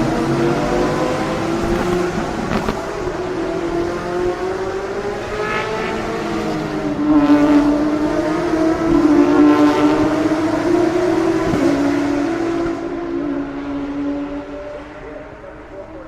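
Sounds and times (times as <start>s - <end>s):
race cars passing at high revs: 0.0s - 16.0s.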